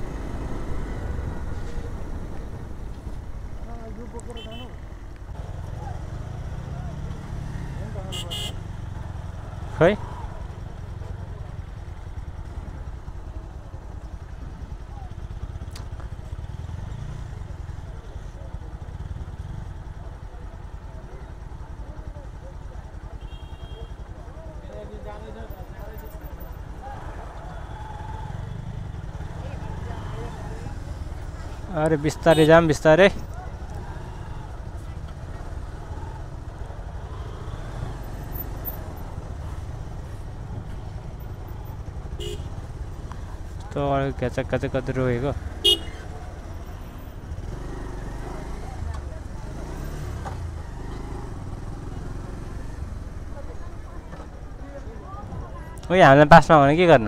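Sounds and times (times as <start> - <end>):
motorcycle engine running: 0.1 - 32.5, 33.1 - 55.5.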